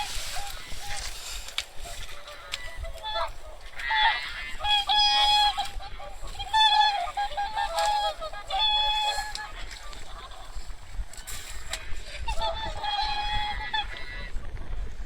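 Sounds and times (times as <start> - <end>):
swans and geese honking: 0.0 - 15.0.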